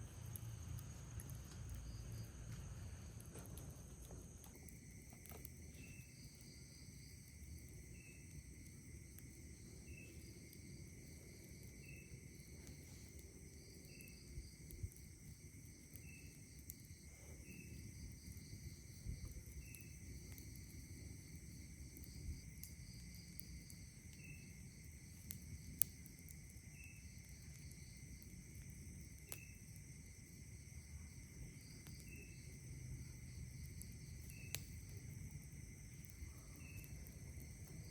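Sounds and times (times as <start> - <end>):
short insect chirp: 0.0 - 26.1, 26.7 - 37.9
campfire crackling and popping: 0.0 - 37.9
night insects trilling: 0.0 - 37.9.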